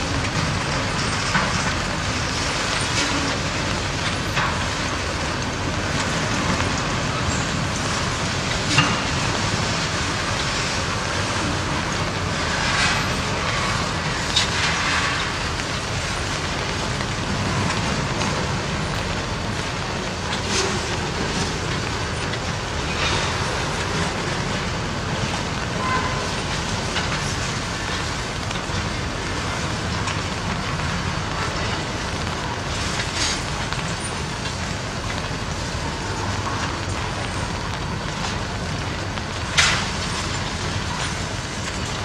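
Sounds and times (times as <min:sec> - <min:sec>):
freight train wheels rumbling on rails: 0:00.0 - 0:42.0.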